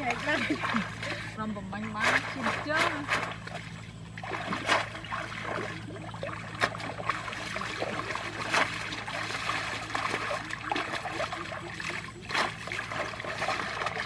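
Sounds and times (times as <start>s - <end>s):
people wading through water: 0.0s - 14.0s.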